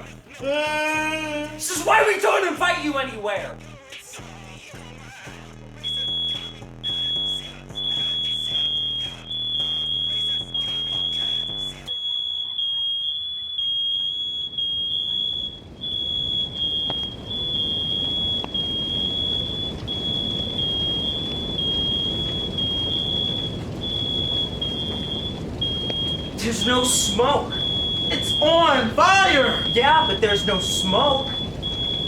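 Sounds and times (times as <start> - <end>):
smoke alarm beeping: 5.8 - 32.0.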